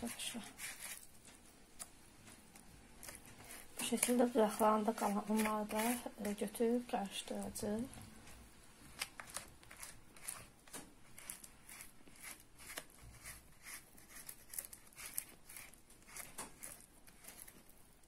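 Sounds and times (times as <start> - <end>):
spatula stirring batter in bowl: 0.0 - 17.8.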